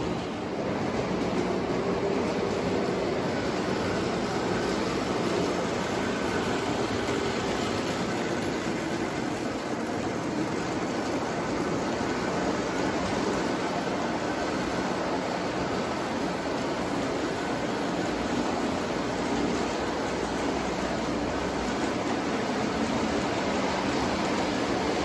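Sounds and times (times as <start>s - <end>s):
model train motor hum: 0.0s - 25.0s
model train wheels rolling: 0.0s - 25.0s.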